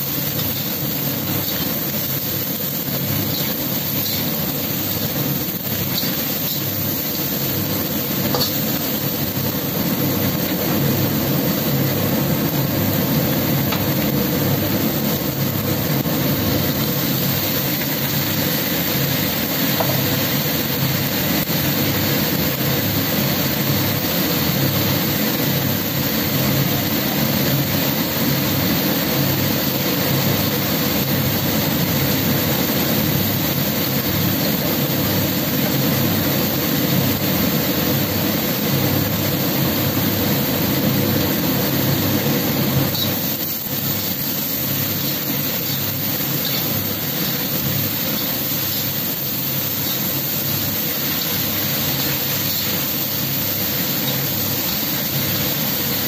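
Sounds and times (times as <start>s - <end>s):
kitchen fan drone: 0.0s - 56.0s.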